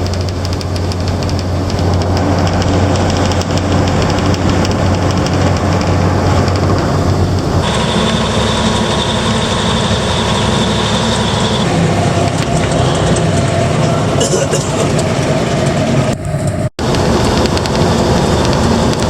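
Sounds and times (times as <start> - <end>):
steady whine: 0.0 - 19.0
truck diesel engine running: 0.0 - 19.0.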